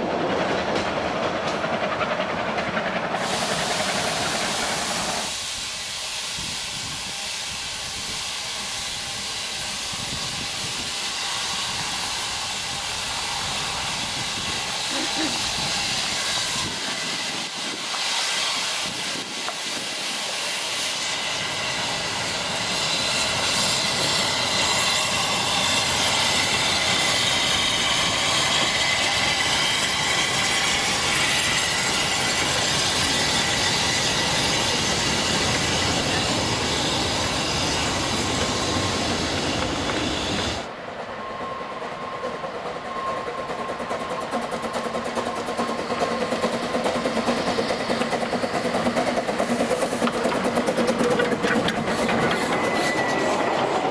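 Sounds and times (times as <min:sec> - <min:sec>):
train wheels clattering on rails: 0:00.0 - 0:53.9
steam hissing: 0:01.0 - 0:53.9.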